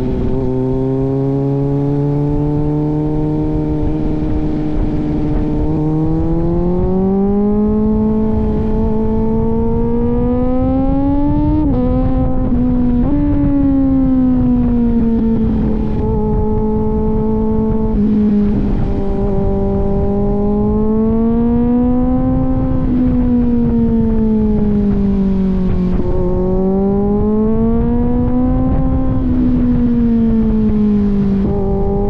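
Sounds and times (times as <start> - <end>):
motorcycle engine accelerating: 0.0 - 32.0
wind and road rumble: 0.0 - 32.0.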